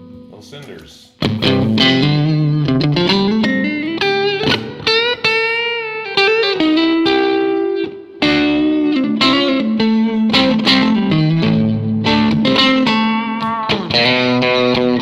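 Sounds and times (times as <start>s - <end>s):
overdriven electric guitar chords: 1.2s - 15.0s.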